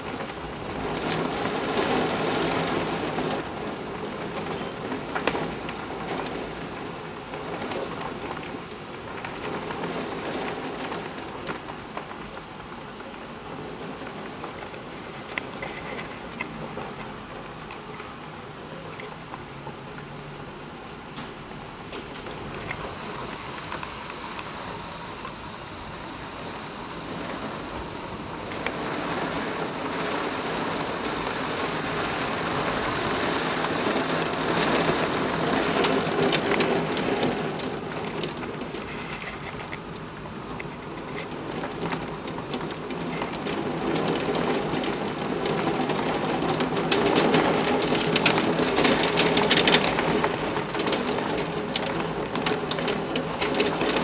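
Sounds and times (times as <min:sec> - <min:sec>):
hailstones clicking: 0:00.0 - 0:19.4, 0:27.1 - 0:54.0
heavy rain on window: 0:00.0 - 0:54.0.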